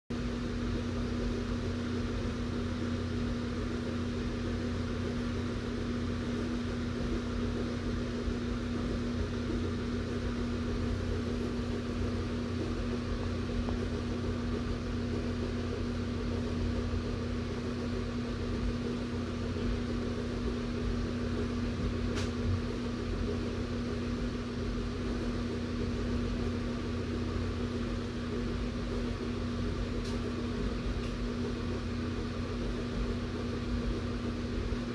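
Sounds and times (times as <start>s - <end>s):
electric fan running: 0.1s - 34.9s.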